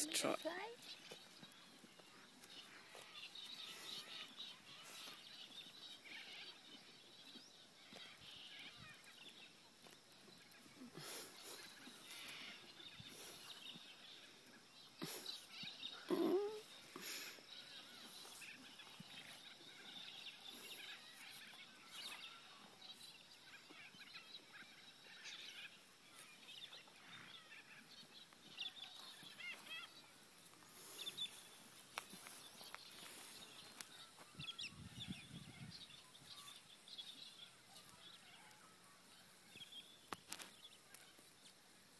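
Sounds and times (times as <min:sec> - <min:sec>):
birds chirping and calling: 0:00.0 - 0:41.6.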